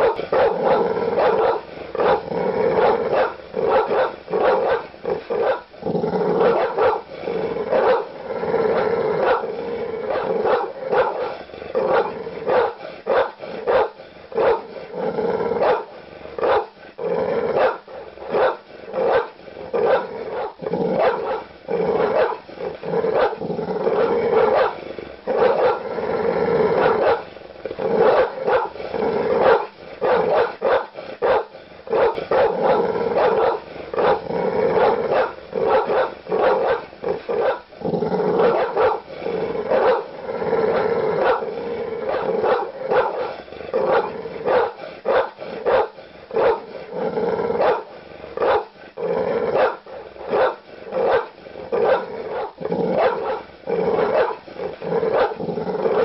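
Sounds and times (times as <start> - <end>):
large dog barking aggressively: 0.0 - 56.0.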